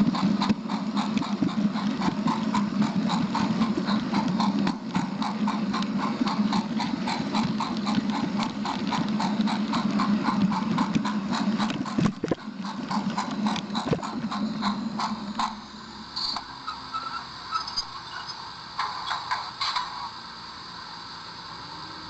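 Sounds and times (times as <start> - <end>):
wheels clicking over rail joints: 0.0 - 15.6, 16.2 - 20.2
train motor hum: 0.0 - 22.0.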